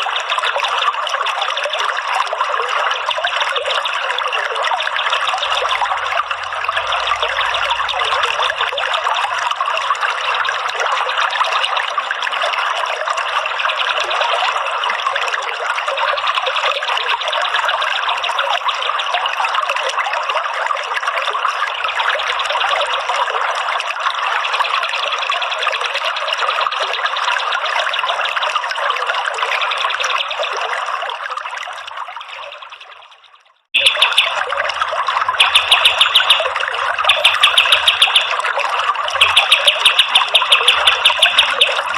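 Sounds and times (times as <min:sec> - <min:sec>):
water trickling and splashing: 0:00.0 - 0:41.9.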